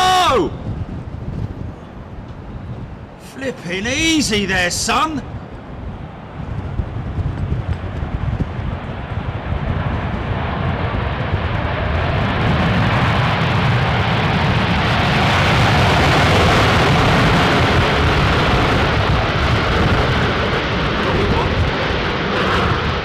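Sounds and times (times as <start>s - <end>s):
jet engine roar: 3.0s - 23.0s.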